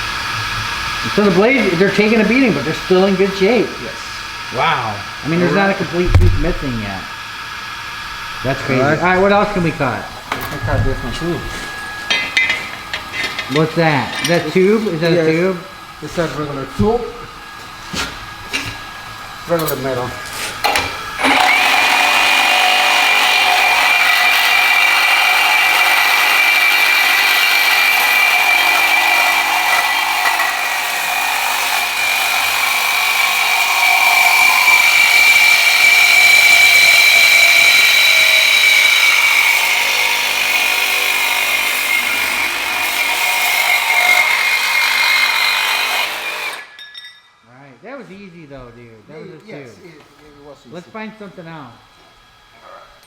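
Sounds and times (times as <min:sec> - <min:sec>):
reciprocating saw cutting steel: 0:00.0 - 0:46.8.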